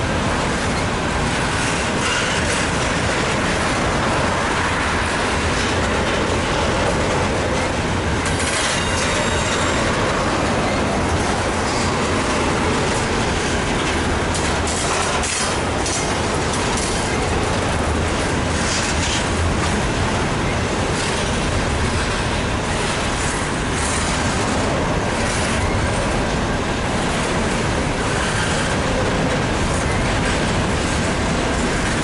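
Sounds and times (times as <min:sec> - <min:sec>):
train wheels rumbling on rail: 0:00.0 - 0:32.0
wheels clicking over rail joints: 0:00.3 - 0:32.0.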